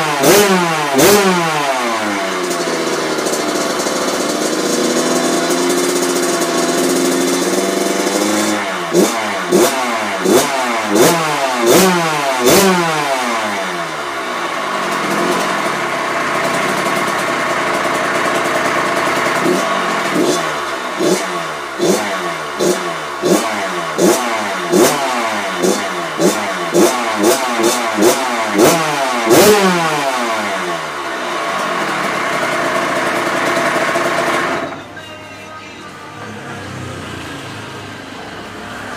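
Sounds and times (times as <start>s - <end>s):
two-stroke engine revving: 0.0s - 34.9s, 36.3s - 38.9s.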